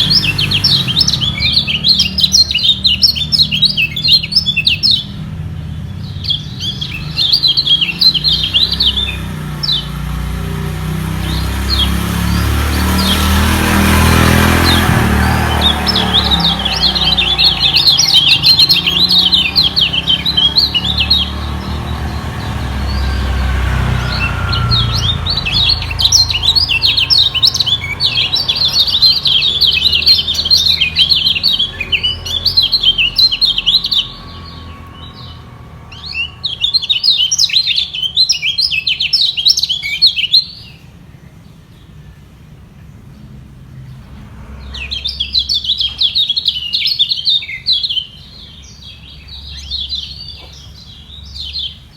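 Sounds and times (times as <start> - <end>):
birds singing rapid chirping trills: 0.0 - 51.9.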